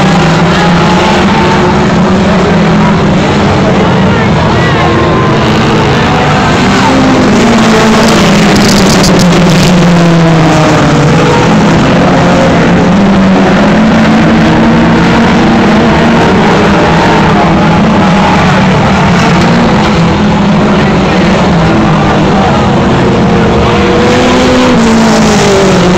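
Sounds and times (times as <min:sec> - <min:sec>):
race car engines roaring: 0:00.0 - 0:25.9.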